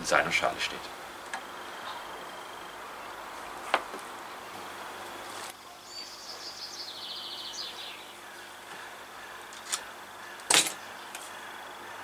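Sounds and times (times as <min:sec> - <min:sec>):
outdoor background hiss: 0:00.0 - 0:12.0
bird twittering: 0:01.4 - 0:03.6, 0:04.2 - 0:12.0.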